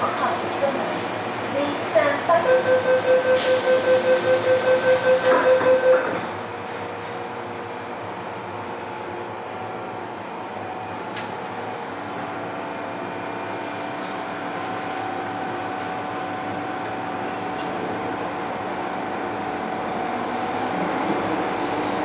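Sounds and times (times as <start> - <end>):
train carriage hum: 0.0 - 22.0.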